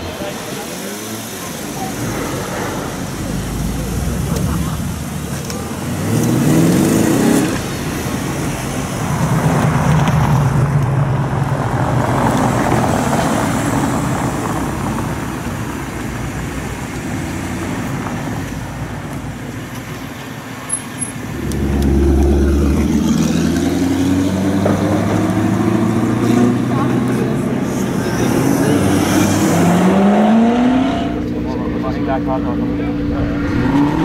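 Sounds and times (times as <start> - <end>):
car engines driving past: 0.0 - 34.0.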